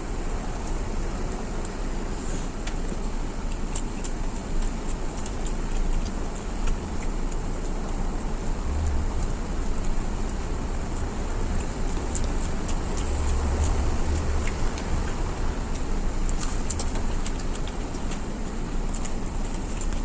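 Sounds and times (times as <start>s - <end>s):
eating and chewing: 0.0s - 20.0s
rumbling background noise: 0.0s - 20.0s.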